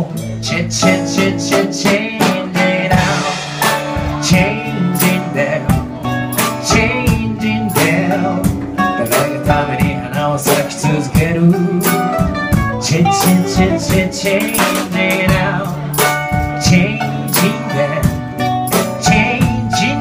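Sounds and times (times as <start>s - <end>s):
acoustic guitars strummed: 0.0s - 20.0s.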